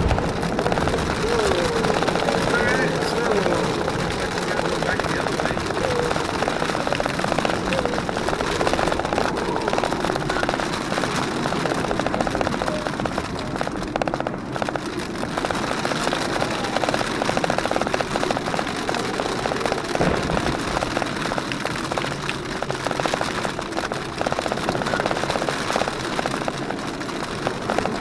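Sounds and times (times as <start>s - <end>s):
car engine running: 0.0s - 28.0s
rain pelting car roof: 0.0s - 28.0s.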